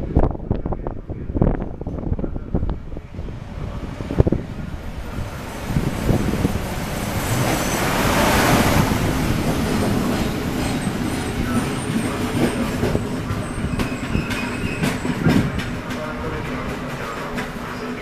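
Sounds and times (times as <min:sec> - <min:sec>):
diesel locomotive passing: 0:00.2 - 0:18.0.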